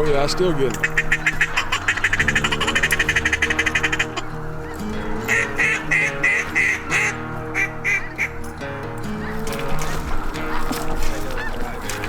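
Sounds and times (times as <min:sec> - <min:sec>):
background music with chords: 0:00.0 - 0:12.0
ducks quacking: 0:00.0 - 0:12.0.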